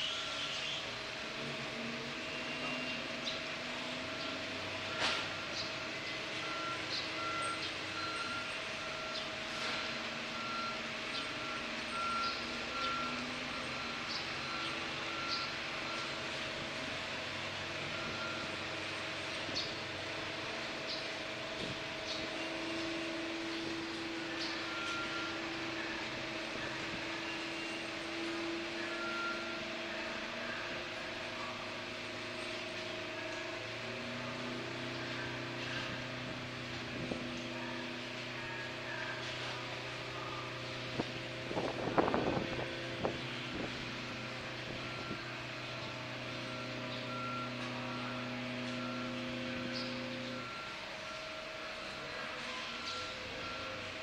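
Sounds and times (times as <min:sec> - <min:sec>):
ship engines humming: 0:00.0 - 0:54.0.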